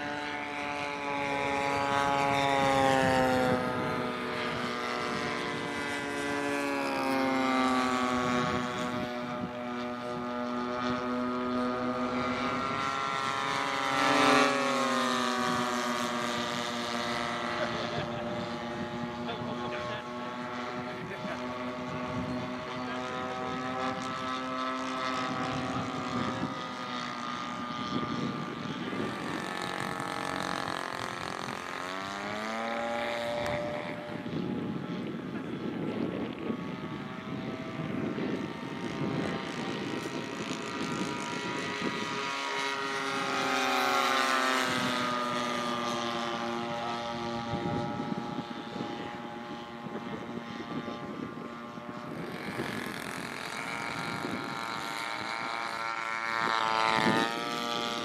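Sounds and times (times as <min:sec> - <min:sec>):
model plane propeller engines buzzing: 0:00.0 - 0:58.0.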